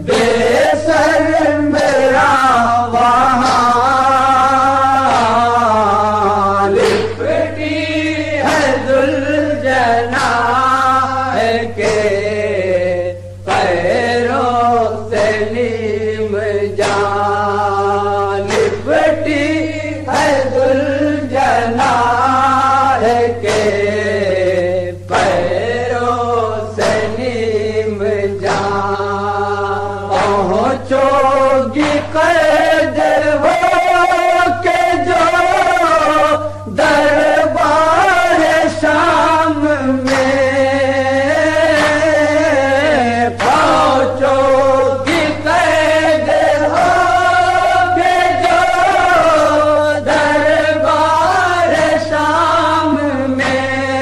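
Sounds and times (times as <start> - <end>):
man chanting a lament: 0.0 - 54.0
steady low hum: 0.0 - 54.0.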